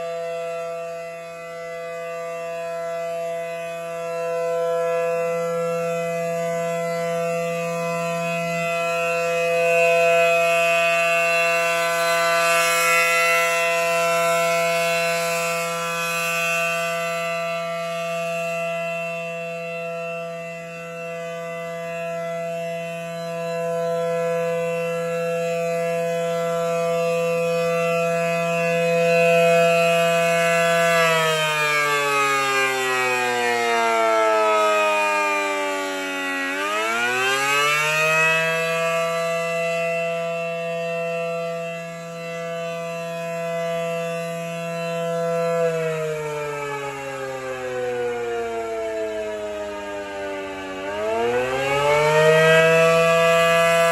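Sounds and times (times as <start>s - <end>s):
rotating warning siren: 0.0s - 53.9s.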